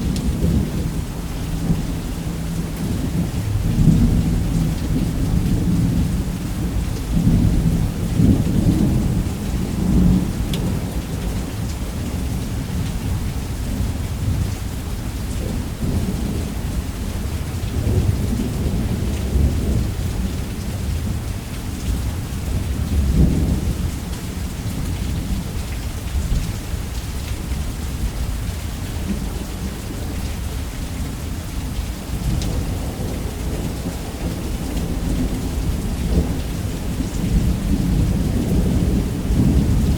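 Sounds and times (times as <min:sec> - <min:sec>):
rolling thunder: 0:00.0 - 0:26.5, 0:31.0 - 0:39.9
heavy rain on a roof: 0:00.0 - 0:39.9.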